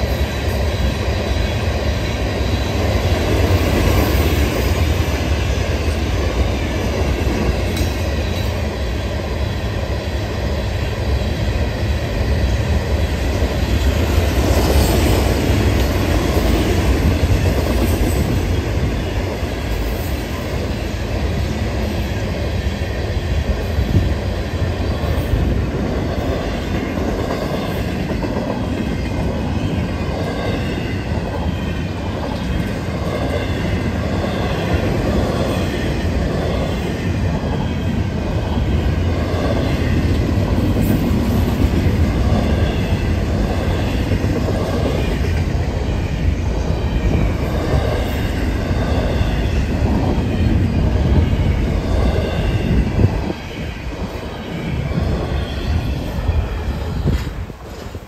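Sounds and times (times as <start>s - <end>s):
freight train rumbling and clattering: 0.0s - 58.0s.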